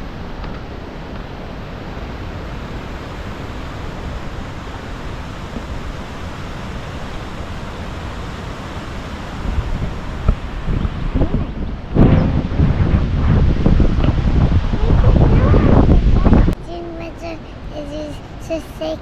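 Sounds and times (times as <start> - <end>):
wind buffeting microphone: 0.0 - 18.1.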